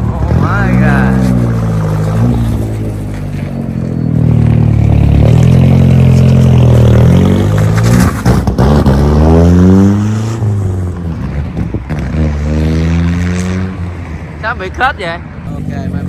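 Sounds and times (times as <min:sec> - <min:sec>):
pickup engine accelerating hard: 0:00.0 - 0:14.1.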